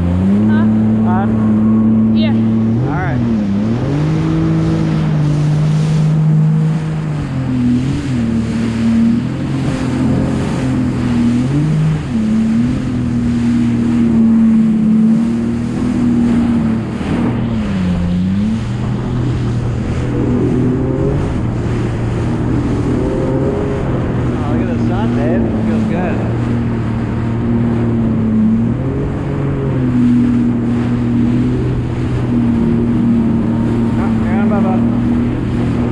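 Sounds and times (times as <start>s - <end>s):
jet ski engine running: 0.0s - 35.9s.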